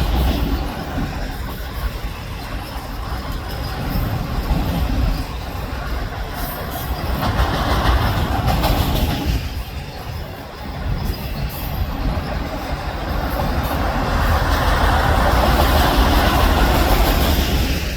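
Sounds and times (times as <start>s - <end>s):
freight train wheels rumbling: 0.0s - 17.9s
rail clicks: 0.0s - 17.9s.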